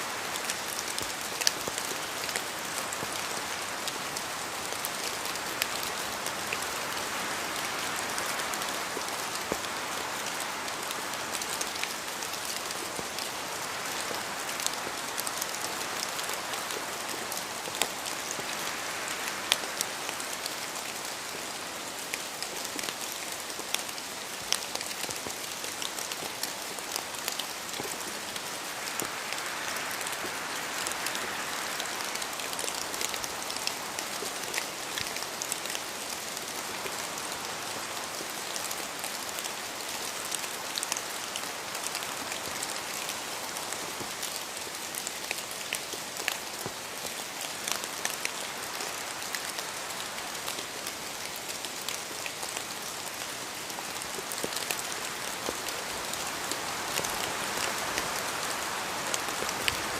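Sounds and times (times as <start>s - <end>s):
rain on leaves: 0.0s - 59.9s
water dripping from trees: 0.0s - 59.9s
wind through trees: 0.0s - 59.9s.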